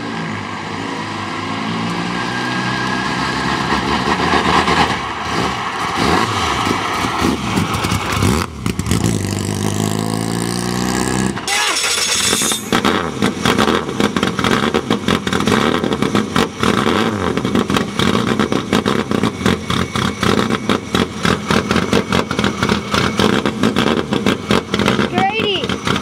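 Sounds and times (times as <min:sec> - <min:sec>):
race engine revving: 0:00.0 - 0:26.0.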